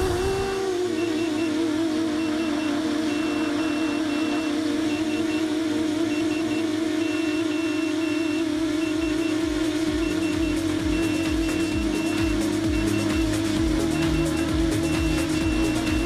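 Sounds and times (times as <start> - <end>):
buzzer beeping: 0.0 - 16.0
drone motors humming: 0.0 - 16.0.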